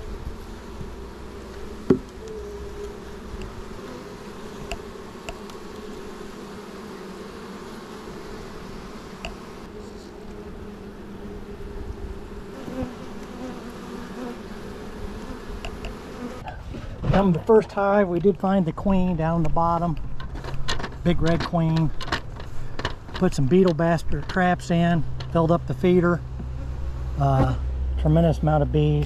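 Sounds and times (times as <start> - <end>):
honey bees buzzing: 0.0 - 16.6, 20.0 - 27.6.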